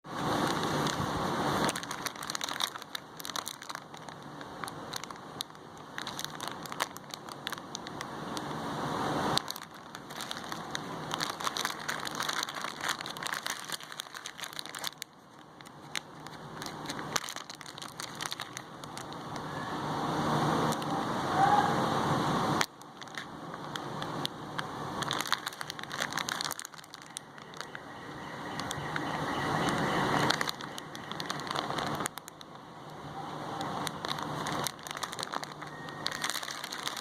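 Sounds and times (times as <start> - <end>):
plastic wrappers crinkling: 0.1 - 8.6, 9.2 - 19.5, 22.6 - 37.0.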